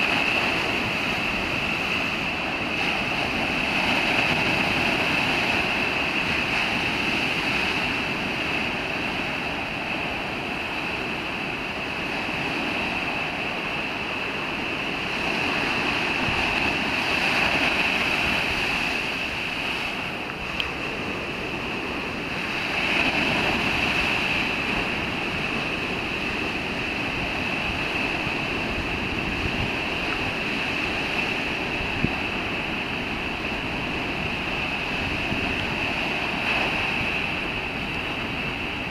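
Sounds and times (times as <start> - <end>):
heavy surf breaking on beach: 0.0 - 38.9
wind: 0.0 - 38.9.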